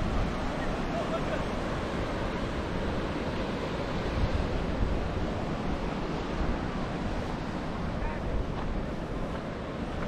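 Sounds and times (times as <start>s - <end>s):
ocean surf: 0.0s - 10.0s
wind on microphone: 0.0s - 10.0s.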